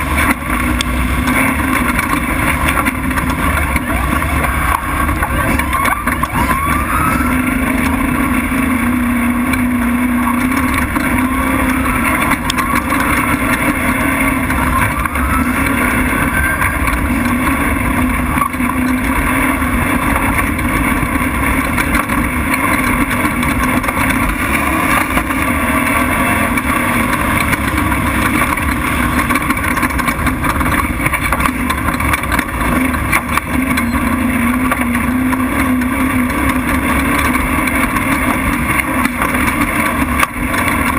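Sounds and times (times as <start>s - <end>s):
truck engine running hard: 0.0s - 40.9s
wind and road noise: 0.0s - 40.9s.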